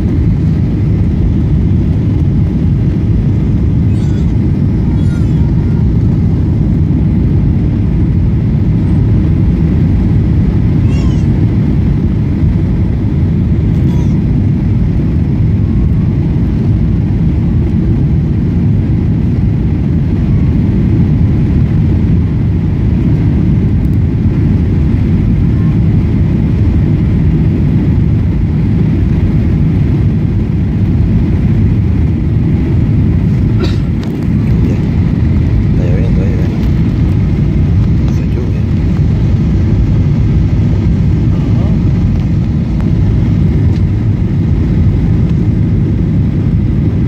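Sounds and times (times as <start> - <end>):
airliner cabin roar: 0.0 - 47.0.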